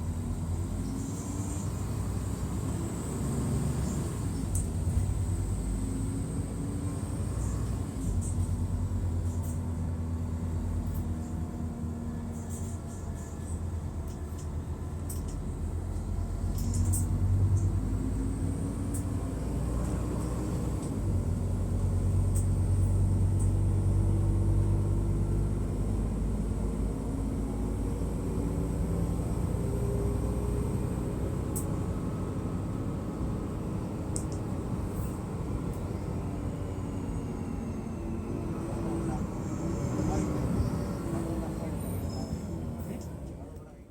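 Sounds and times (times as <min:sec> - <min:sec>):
bus diesel engine under load: 0:00.0 - 0:43.9.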